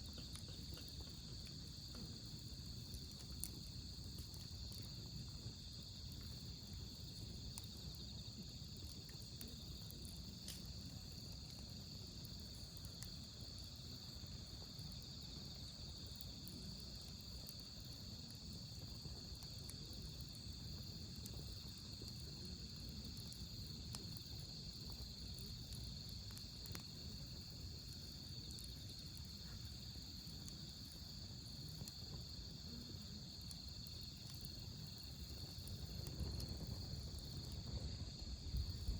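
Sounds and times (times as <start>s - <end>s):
crickets trilling: 0.0s - 38.9s
faint campfire crackles: 0.0s - 38.9s.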